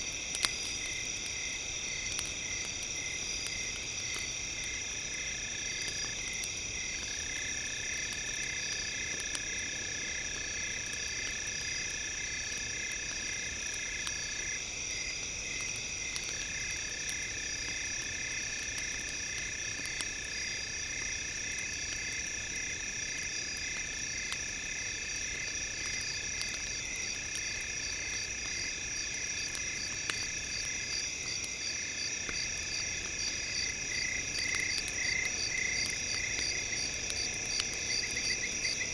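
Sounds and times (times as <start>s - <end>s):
faint campfire crackle: 0.0s - 38.9s.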